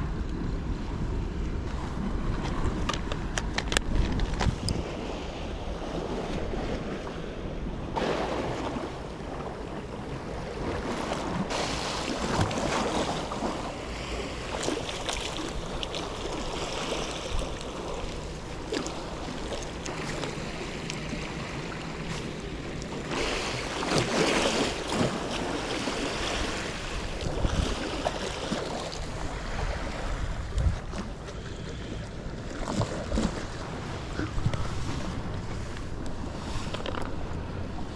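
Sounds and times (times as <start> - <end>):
waves washing on shore: 0.0 - 37.9
wind buffeting microphone: 0.0 - 37.9.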